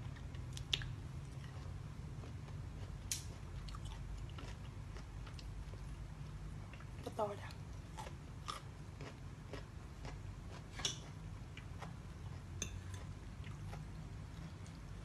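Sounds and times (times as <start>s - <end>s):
low steady hum: 0.0s - 15.0s
person chewing: 0.1s - 6.0s, 7.7s - 15.0s.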